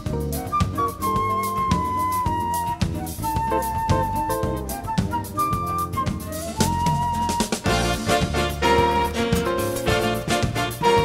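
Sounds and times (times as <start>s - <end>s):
instrumental jazz: 0.0s - 11.0s.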